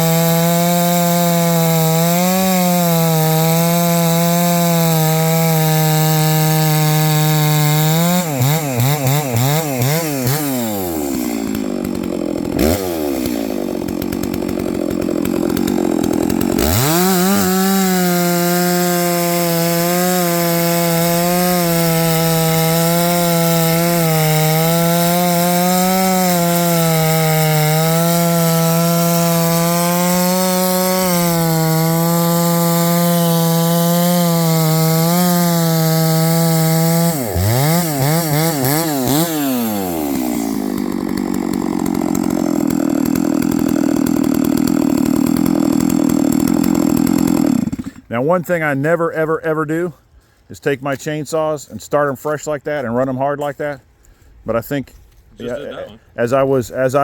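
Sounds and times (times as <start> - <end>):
chainsaw revving: 0.0 - 48.1.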